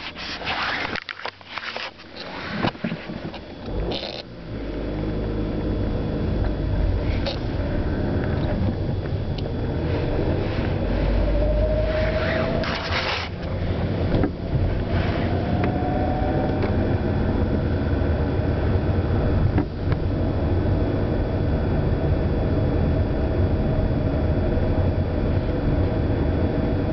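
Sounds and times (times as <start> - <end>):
car engine rumbling with whine: 0.0 - 26.9.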